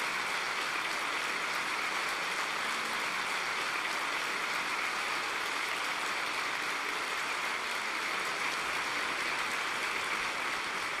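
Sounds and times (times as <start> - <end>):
audience clapping: 0.0 - 11.0.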